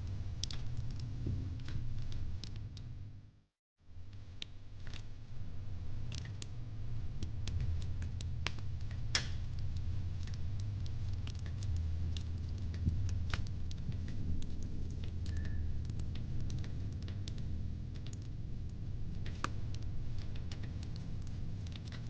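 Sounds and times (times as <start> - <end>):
wood fire crackling: 0.0 - 3.0, 4.0 - 22.0.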